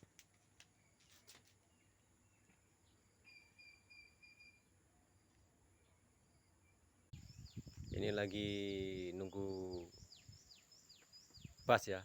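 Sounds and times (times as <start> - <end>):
bird chirping: 0.7 - 12.0.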